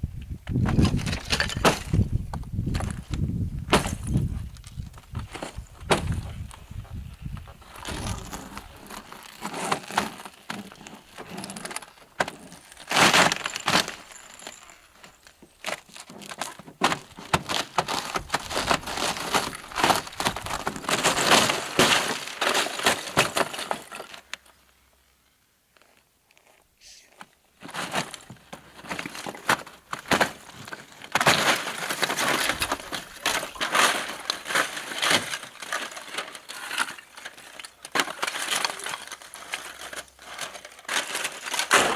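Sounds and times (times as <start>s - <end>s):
ice crunching and cracking: 0.6s - 24.6s, 27.6s - 41.9s.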